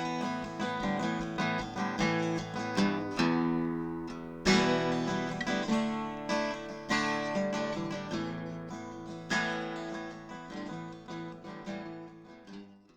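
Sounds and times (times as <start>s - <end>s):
acoustic guitar strummed chords: 0.0s - 12.9s.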